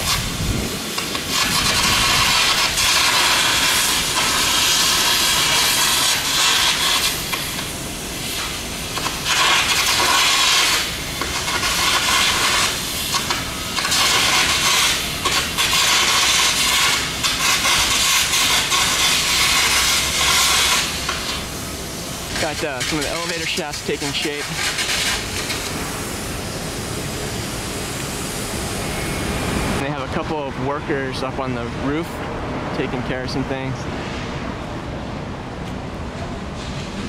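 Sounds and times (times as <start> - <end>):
arc welding hiss: 0.0 - 29.9.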